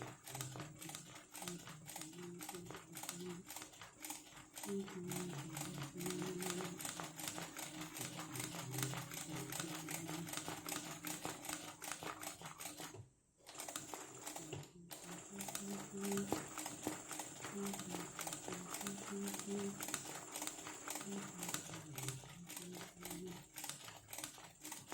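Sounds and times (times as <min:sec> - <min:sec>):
sewing machine motor hum: 0:00.0 - 0:24.9
sewing machine needle chatter: 0:00.0 - 0:24.9.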